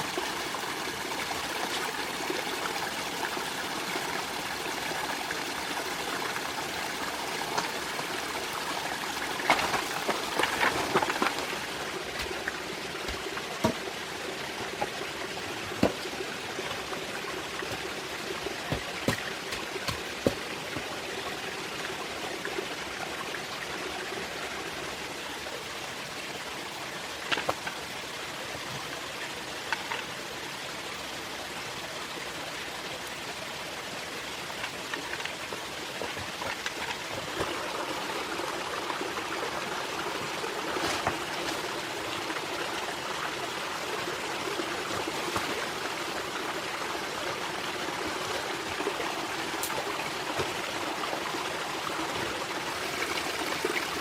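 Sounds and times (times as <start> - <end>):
rush of flowing water: 0.0 - 54.0.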